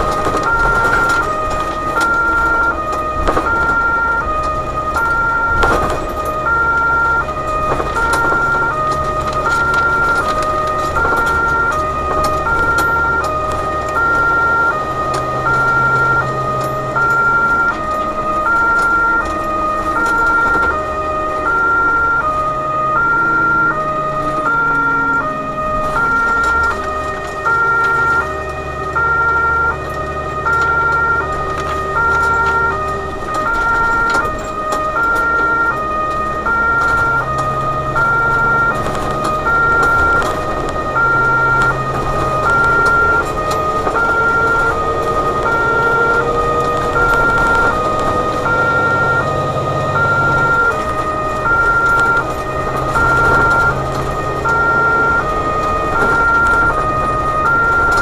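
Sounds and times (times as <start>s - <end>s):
truck engine and road noise: 0.0s - 58.0s
two-tone emergency siren: 0.0s - 58.0s.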